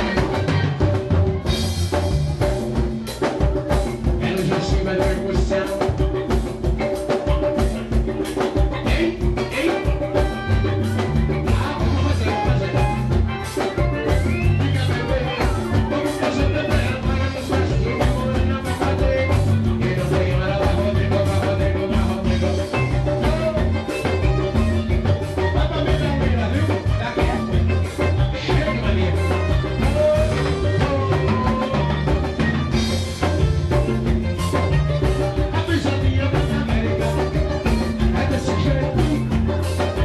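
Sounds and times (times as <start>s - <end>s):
drum kit steady beat: 0.0s - 40.0s
live band playing dance music: 0.0s - 40.0s
repeating bass line: 0.0s - 40.0s.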